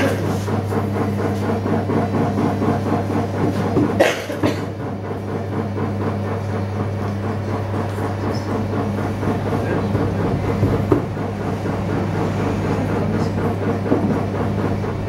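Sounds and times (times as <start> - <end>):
potter's wheel humming: 0.0 - 15.0.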